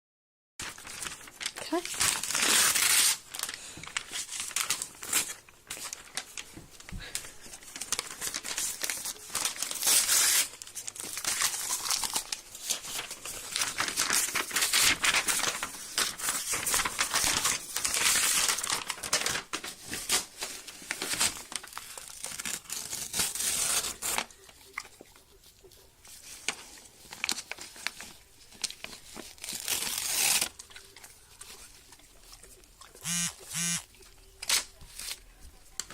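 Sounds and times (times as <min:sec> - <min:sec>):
dog tearing paper: 0:00.6 - 0:06.5, 0:07.5 - 0:25.0, 0:26.1 - 0:33.8, 0:34.4 - 0:35.9.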